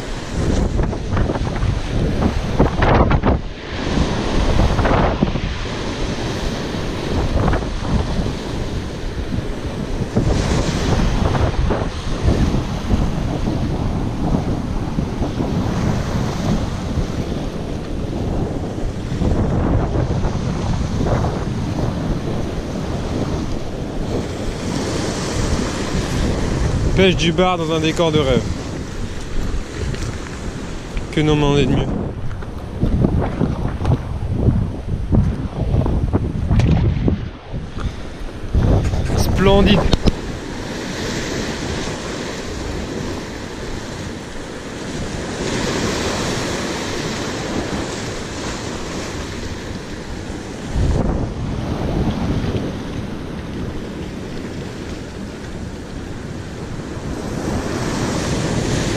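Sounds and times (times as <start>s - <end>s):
waves breaking on rocks: 0.0s - 58.9s
wind rumbling on microphone: 0.0s - 58.9s.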